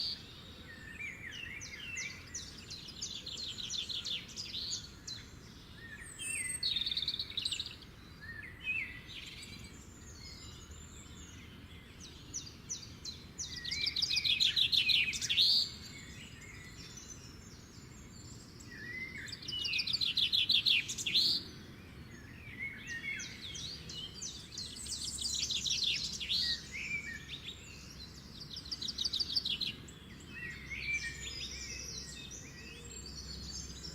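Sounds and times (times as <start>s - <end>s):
songbirds trilling and chirping: 0.0s - 33.9s.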